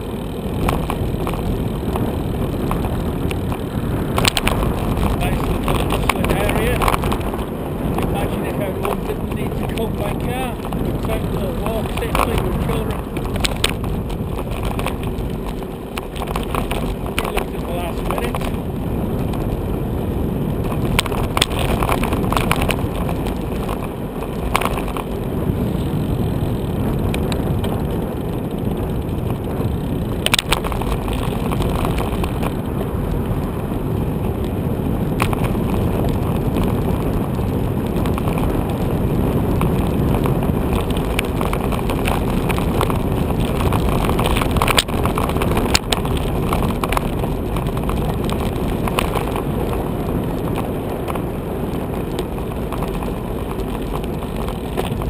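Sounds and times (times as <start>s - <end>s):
bicycle knocks and rattles: 0.0s - 55.0s
bicycle tyre and wind rumble: 0.0s - 55.0s.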